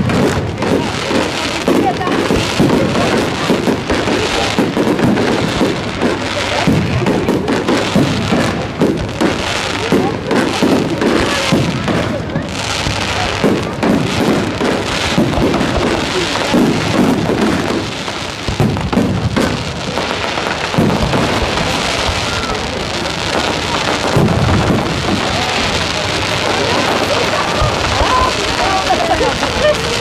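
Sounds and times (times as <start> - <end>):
fireworks crackling: 0.0 - 30.0
low booms of bursting shells: 0.0 - 30.0.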